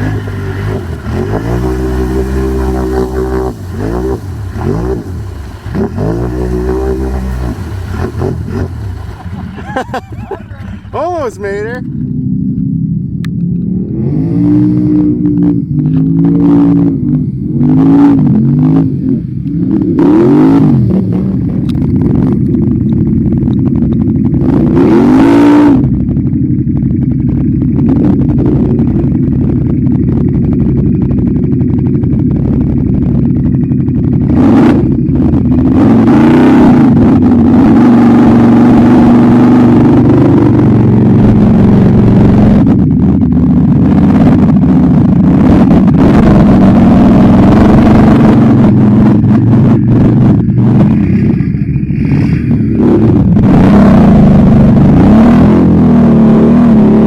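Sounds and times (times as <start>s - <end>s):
atv engine revving: 0.0s - 11.6s, 13.8s - 57.0s.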